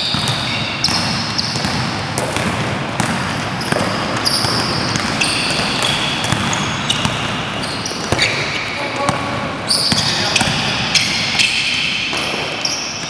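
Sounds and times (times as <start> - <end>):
ball bouncing thuds: 0.0 - 10.6
sneaker squeaks on floor: 0.0 - 13.0.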